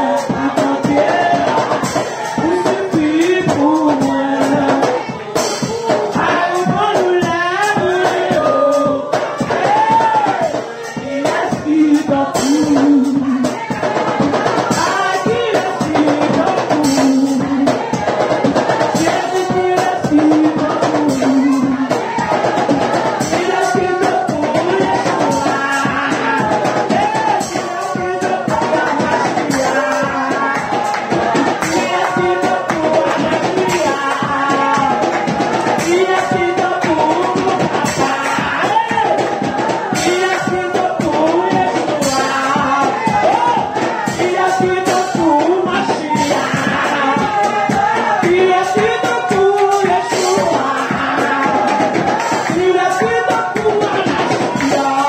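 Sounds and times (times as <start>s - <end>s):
drum kit beat: 0.0s - 55.0s
woman singing into microphone: 0.0s - 55.0s.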